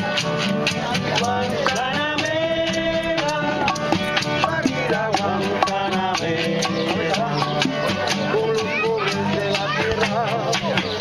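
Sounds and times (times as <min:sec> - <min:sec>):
live salsa band music: 0:00.0 - 0:11.0
maracas: 0:00.0 - 0:11.0
percussion beat: 0:00.0 - 0:11.0.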